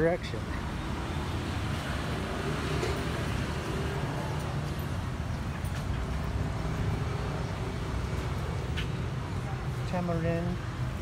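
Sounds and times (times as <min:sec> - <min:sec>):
traffic engine drone: 0:00.0 - 0:11.0.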